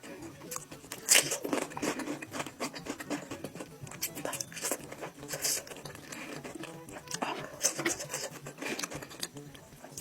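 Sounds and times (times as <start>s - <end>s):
chewing and smacking: 0.0s - 10.0s.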